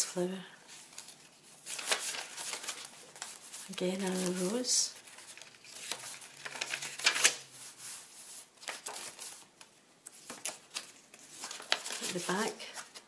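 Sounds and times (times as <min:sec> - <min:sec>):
paper pages rustling: 0:00.6 - 0:13.0.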